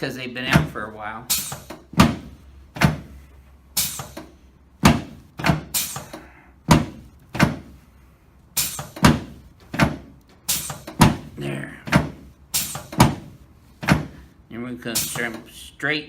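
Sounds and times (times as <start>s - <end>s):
sharp thumps of chiropractic thrusts: 0.4s - 14.4s, 15.0s - 15.5s.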